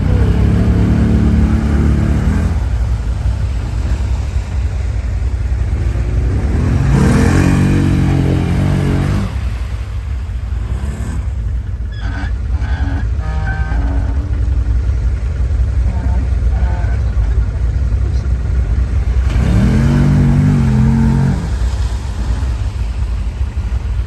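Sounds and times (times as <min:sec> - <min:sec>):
quad bike engine revving: 0:00.0 - 0:22.6.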